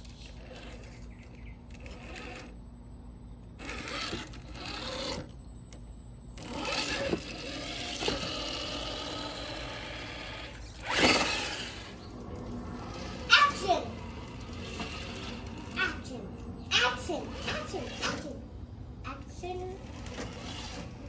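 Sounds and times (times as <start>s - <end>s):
toy car motor whirring: 0.0s - 18.4s, 19.1s - 21.0s.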